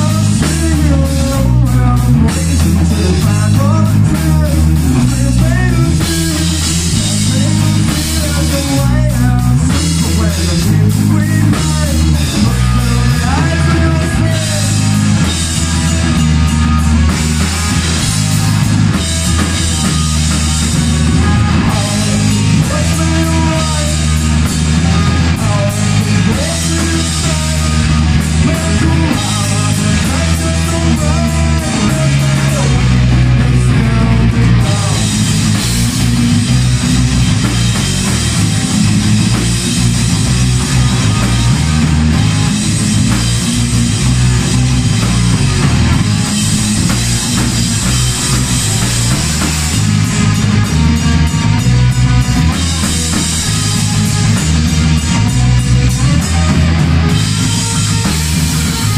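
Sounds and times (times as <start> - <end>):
melodic guitar line: 0.0 - 58.9
rock band playing: 0.0 - 58.9.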